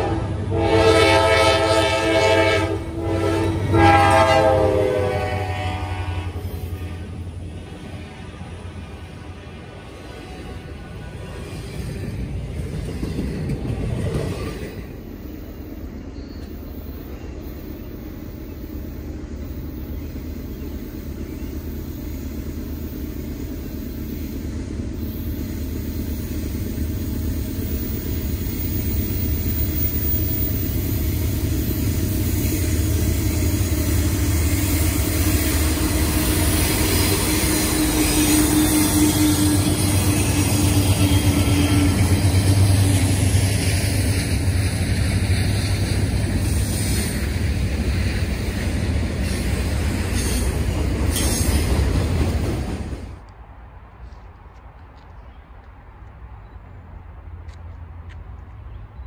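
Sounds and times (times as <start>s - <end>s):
diesel locomotive engine drone: 0.0s - 59.0s
freight cars rolling past: 5.5s - 59.0s.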